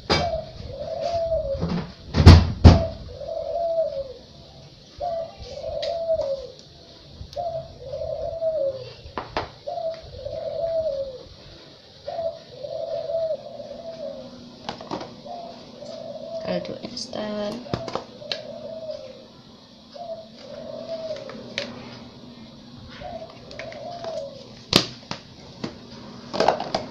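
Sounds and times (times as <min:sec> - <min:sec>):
dove cooing: 0:00.0 - 0:24.8.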